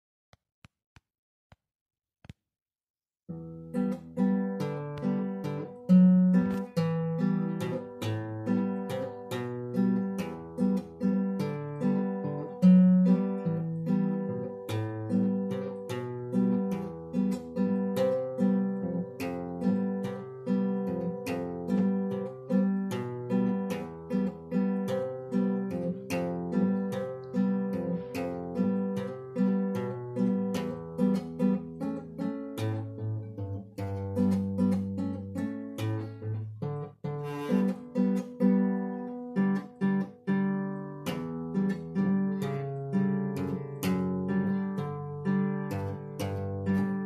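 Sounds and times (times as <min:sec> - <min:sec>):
fingerstyle classical guitar: 0:03.3 - 0:47.0.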